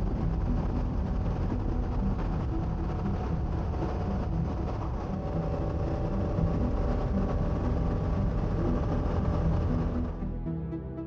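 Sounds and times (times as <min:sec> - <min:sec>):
motorcycle engine drone: 0:00.0 - 0:10.3.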